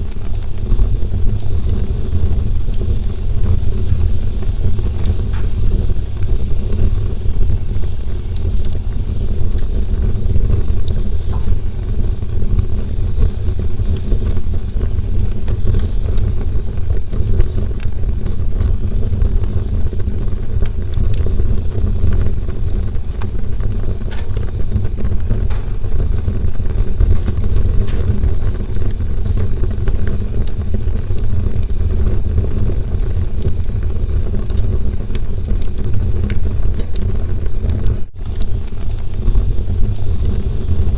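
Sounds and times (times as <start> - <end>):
campfire flame roar: 0.0 - 40.9
wood crackling and popping: 0.0 - 40.9.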